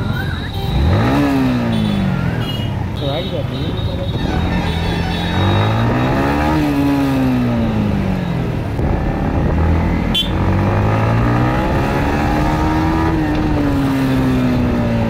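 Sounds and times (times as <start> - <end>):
motorcycle engine revving: 0.0 - 2.9, 4.1 - 15.0.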